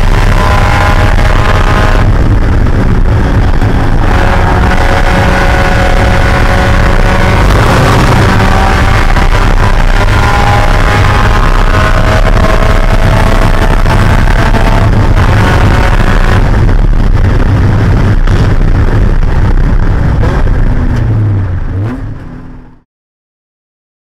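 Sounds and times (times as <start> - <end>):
race car engine running: 0.0 - 22.7
wind and road noise: 0.0 - 22.9.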